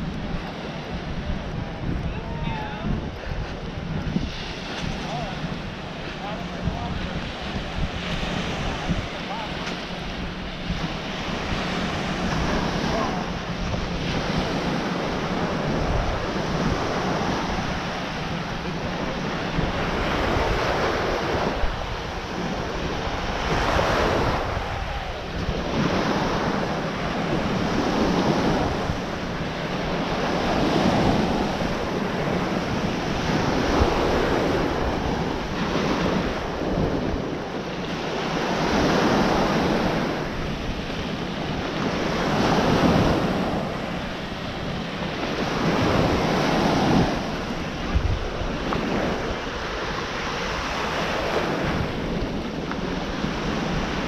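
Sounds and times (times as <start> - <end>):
ocean surf washing: 0.0 - 54.0
wind rumbling on microphone: 0.0 - 54.0.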